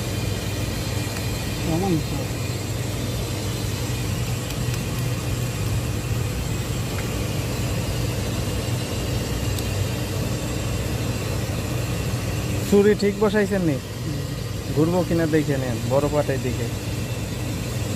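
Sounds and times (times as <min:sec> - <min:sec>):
machinery humming: 0:00.0 - 0:17.9.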